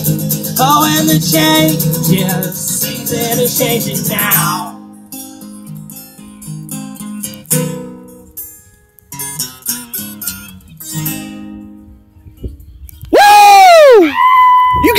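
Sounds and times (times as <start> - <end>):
acoustic guitar strumming: 0.0 - 12.8.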